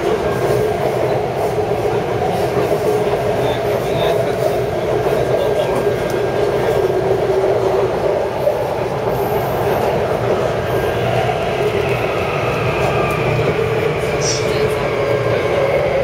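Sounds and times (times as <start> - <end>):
electric train rumbling on track: 0.0 - 16.0.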